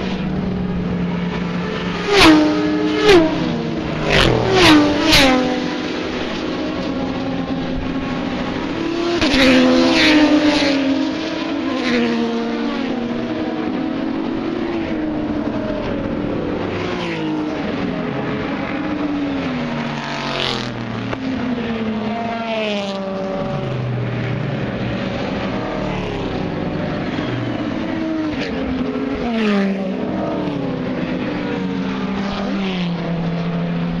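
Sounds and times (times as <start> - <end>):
race cars passing: 0.0 - 34.0.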